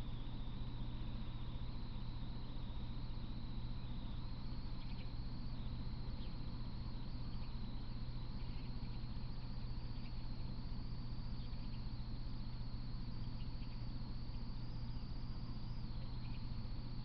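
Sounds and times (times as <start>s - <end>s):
faint chirps: 0.0s - 17.0s
steady high whine: 0.0s - 17.0s
steady low hum: 0.0s - 17.0s.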